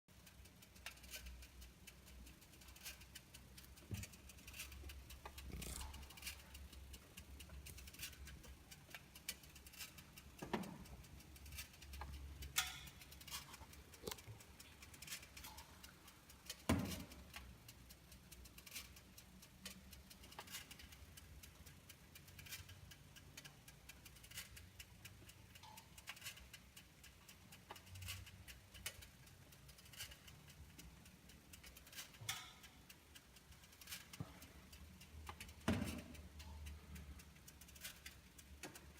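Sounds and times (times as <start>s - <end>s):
cooling engine clicking and rattling: 0.1s - 38.9s.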